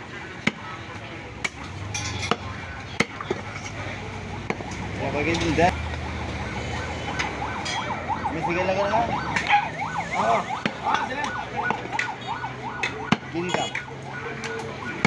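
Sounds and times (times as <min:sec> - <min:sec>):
siren sweeping up and down: 0:01.6 - 0:15.0.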